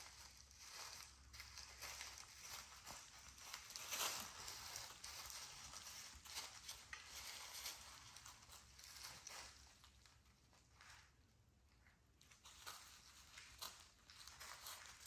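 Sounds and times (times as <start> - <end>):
puppies scuffling and pattering: 0.0 - 11.2, 12.2 - 15.0.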